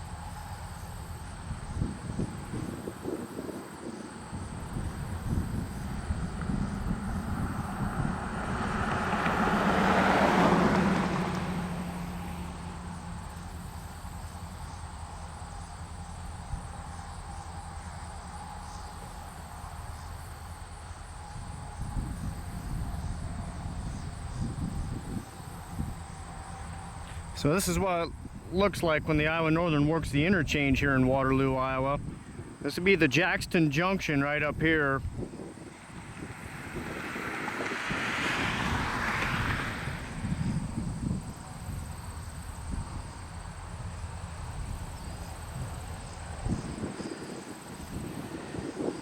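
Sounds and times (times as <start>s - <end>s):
diesel locomotives rumbling: 0.0s - 49.0s
vehicle passing: 0.4s - 28.4s, 34.2s - 49.0s.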